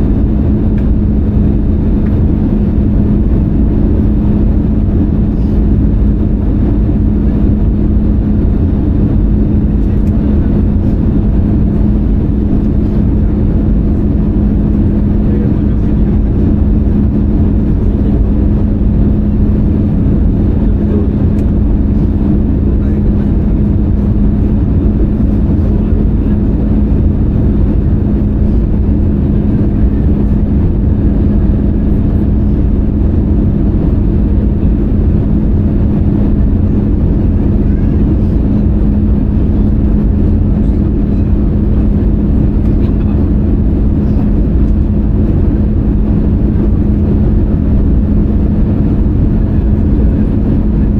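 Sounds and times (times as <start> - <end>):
constant low hum: 0.0 - 50.9
jet engine and airflow drone: 0.0 - 50.9.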